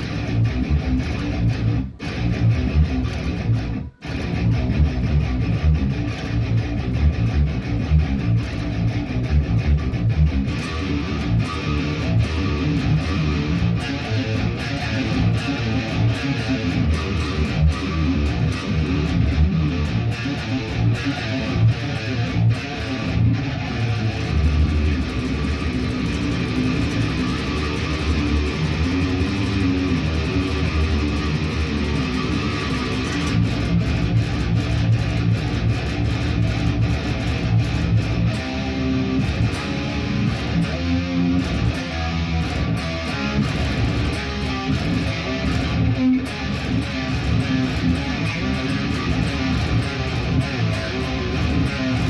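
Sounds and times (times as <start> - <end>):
guitar playing: 0.0 - 52.0.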